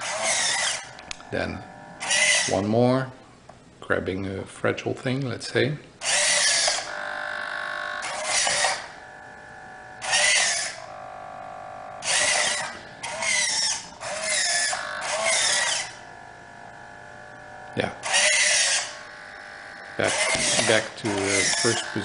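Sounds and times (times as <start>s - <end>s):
servo motors whirring: 0.0s - 2.6s, 6.0s - 22.0s
faint steady servo buzz: 0.0s - 3.5s, 6.0s - 22.0s.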